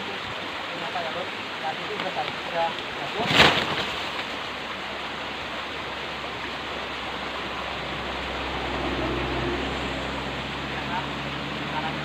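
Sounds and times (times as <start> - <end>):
small stream rushing: 0.0 - 12.0.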